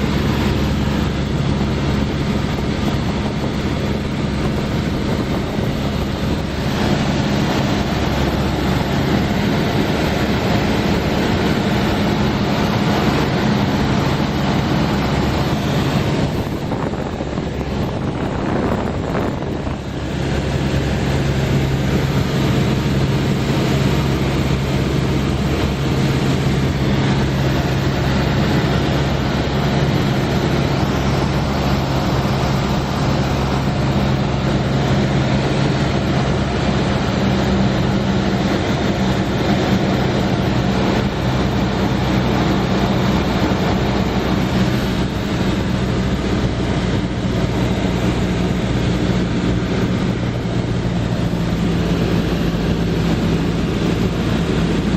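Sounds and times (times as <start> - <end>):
airplane engine drone in flight: 0.0 - 54.9.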